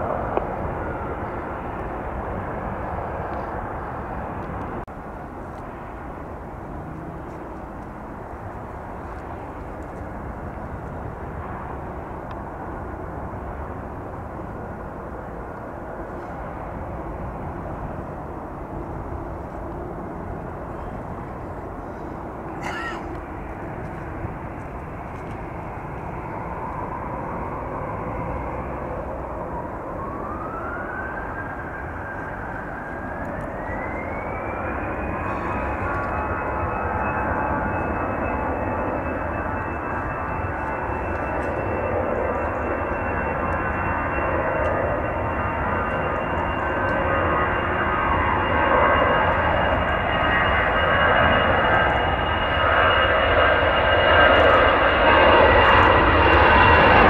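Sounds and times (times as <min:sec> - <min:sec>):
jet engines running: 0:00.0 - 0:57.0
jet engines spooling up whine: 0:00.0 - 0:57.0.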